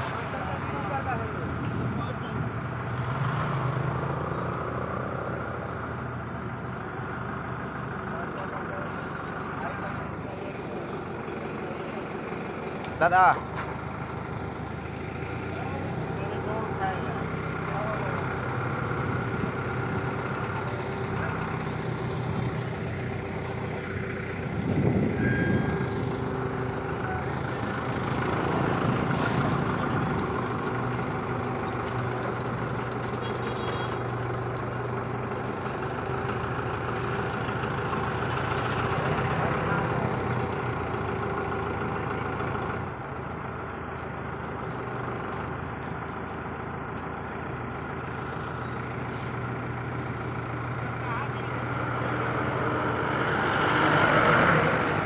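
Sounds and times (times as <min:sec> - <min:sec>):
crane diesel engine running: 0:00.0 - 0:55.0.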